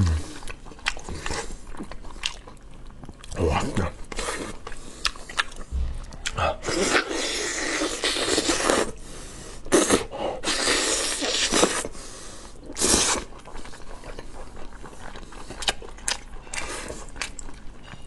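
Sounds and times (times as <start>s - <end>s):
soft chewing: 0.2s - 9.0s, 9.6s - 18.0s.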